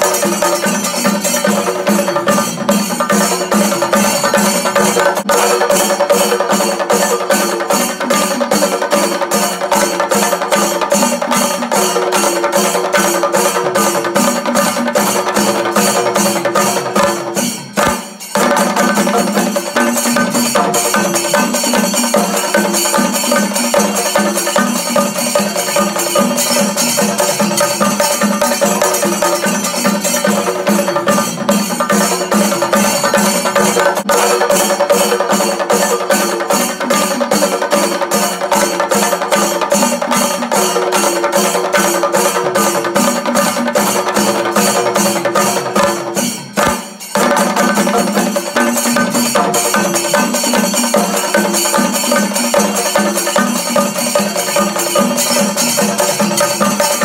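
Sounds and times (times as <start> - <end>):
loud music with fast drum strokes: 0.0 - 57.0.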